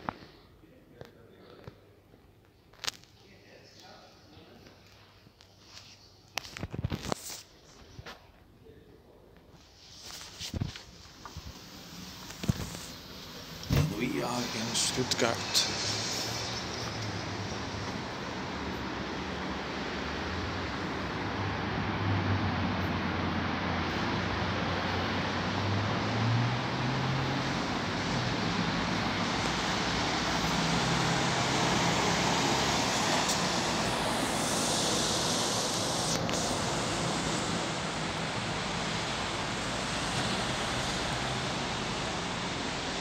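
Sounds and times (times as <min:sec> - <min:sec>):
traffic engine and tyre noise: 0:00.0 - 0:43.0.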